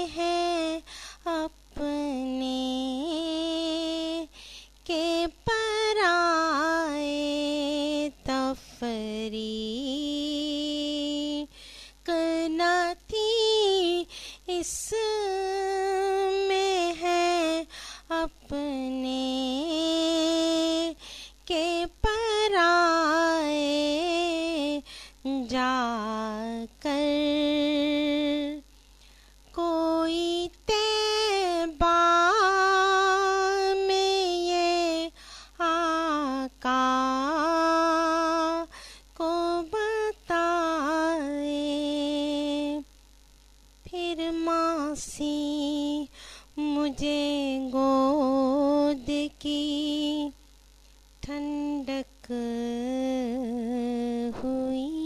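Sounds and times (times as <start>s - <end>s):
woman singing: 0.0s - 28.6s, 29.5s - 42.9s, 43.8s - 50.4s, 51.2s - 55.0s.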